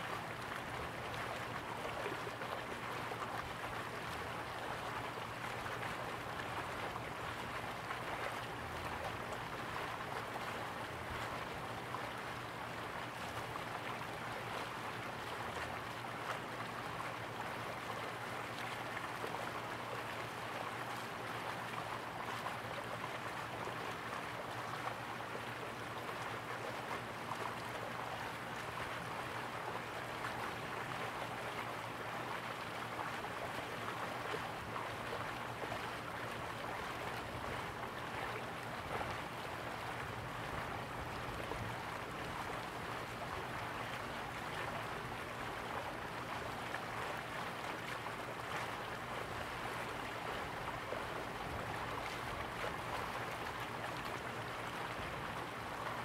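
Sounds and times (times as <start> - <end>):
low constant hum: 0.0 - 56.0.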